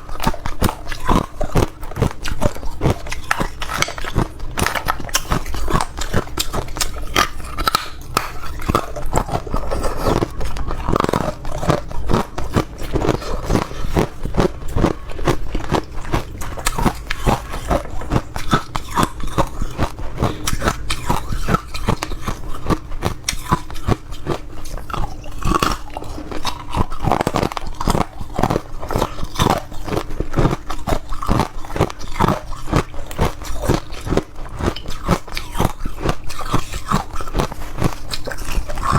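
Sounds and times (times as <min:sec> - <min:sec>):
person chewing ice: 0:00.0 - 0:38.9.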